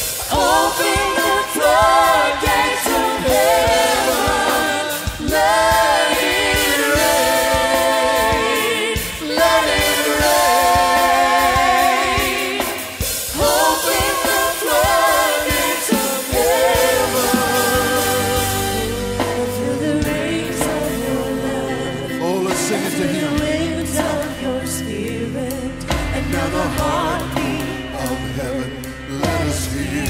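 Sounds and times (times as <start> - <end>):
people singing long held phrases: 0.0 - 30.0
praise band playing: 0.0 - 30.0.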